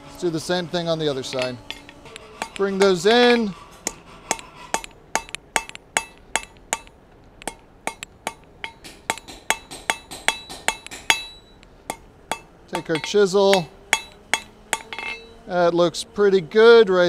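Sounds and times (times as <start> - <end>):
hammer striking steel on anvil: 0.2 - 15.5.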